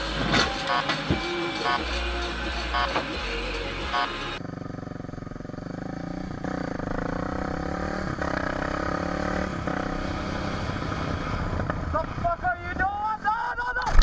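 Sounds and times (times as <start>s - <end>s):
vehicle engine running: 1.6s - 13.7s.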